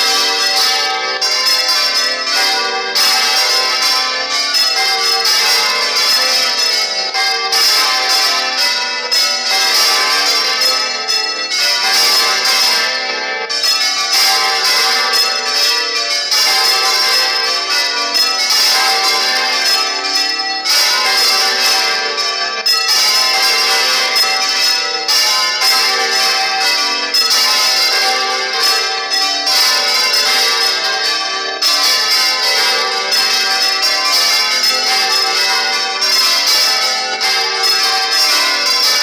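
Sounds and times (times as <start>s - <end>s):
church bells pealing: 0.0s - 39.0s.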